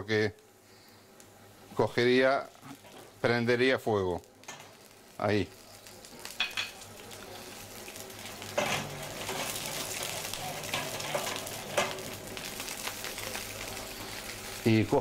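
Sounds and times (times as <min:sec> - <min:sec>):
shallots sizzling in oil: 0:00.0 - 0:15.0.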